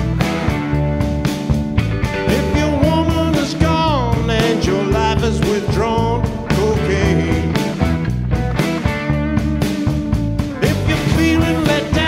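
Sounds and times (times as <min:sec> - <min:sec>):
bending sliding lead guitar: 0:00.0 - 0:12.0
blues-rock band playing: 0:00.0 - 0:12.0.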